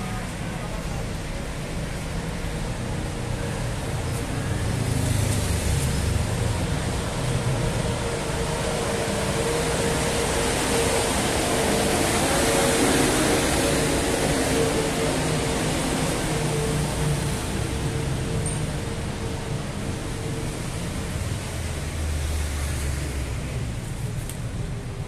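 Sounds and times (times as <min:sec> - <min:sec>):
road vehicle rumble: 0:00.0 - 0:25.0.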